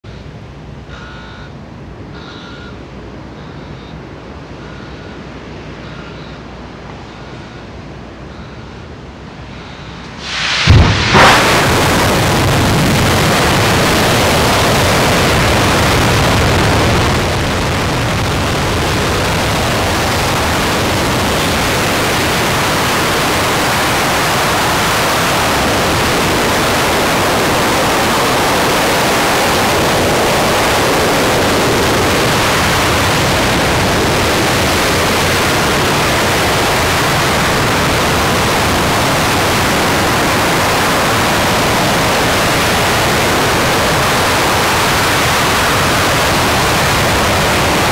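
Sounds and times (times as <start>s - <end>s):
rocket engine roaring: 7.1s - 47.9s.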